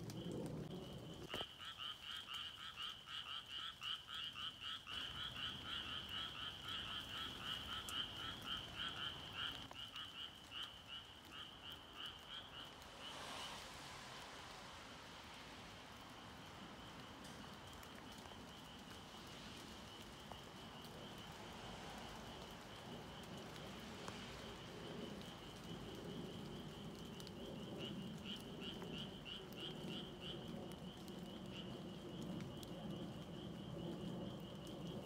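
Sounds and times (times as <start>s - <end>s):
frogs trilling chorus: 0.1s - 35.0s
pulsed frog calls: 0.2s - 13.1s, 16.0s - 35.0s.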